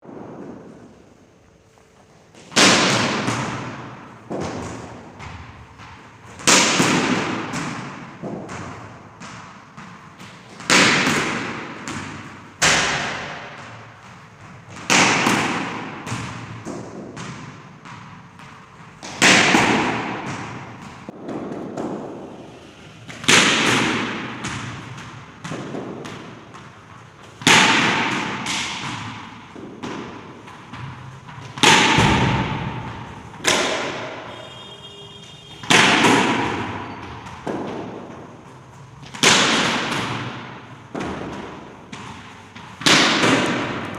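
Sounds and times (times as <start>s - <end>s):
cricket bat striking ball: 2.4s - 14.0s, 14.8s - 18.1s, 19.0s - 22.4s, 23.1s - 26.6s, 27.3s - 38.2s, 39.0s - 43.9s.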